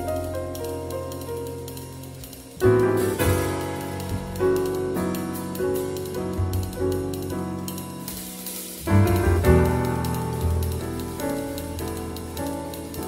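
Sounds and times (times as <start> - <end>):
low bass notes: 0.0 - 13.0
piano chords: 0.0 - 13.0.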